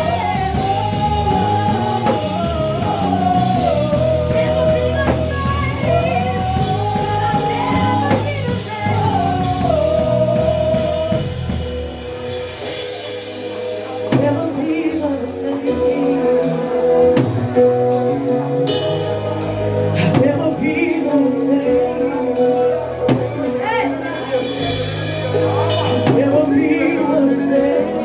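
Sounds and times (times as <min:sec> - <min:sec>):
person singing melody: 0:00.0 - 0:12.0, 0:12.6 - 0:28.0
drums: 0:00.0 - 0:28.0
guitar: 0:00.0 - 0:28.0.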